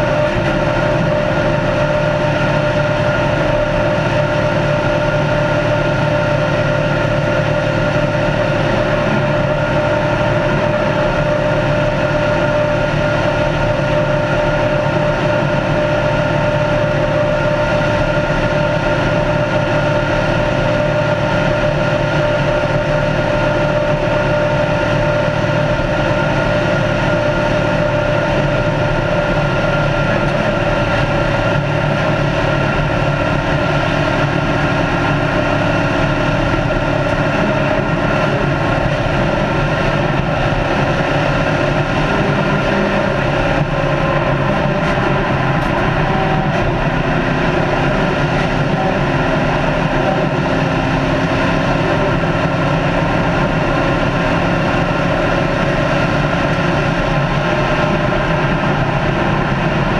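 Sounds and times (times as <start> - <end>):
race car engine drone: 0.0 - 59.9
tyre and road noise: 0.0 - 59.9.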